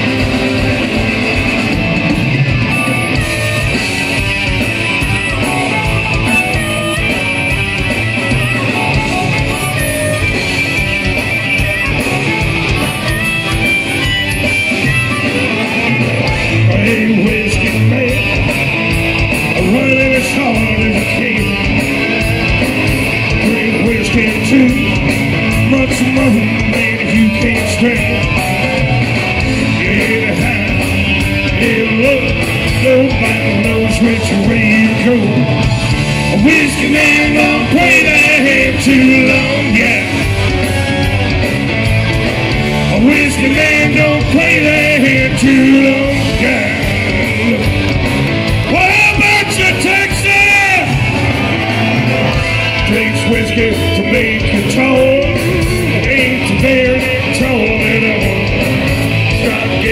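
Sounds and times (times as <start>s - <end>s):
lead singer: 0.0s - 59.9s
live rock band playing: 0.0s - 59.9s.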